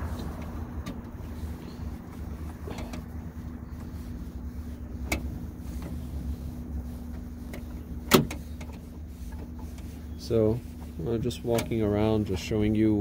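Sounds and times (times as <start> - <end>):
motor vehicle rumbling: 0.0 - 13.0.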